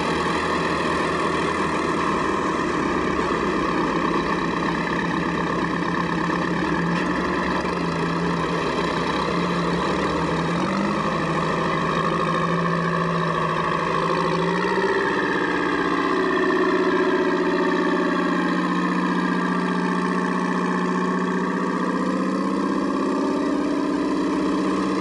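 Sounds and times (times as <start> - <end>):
tractor engines running at low revs: 0.0 - 25.0.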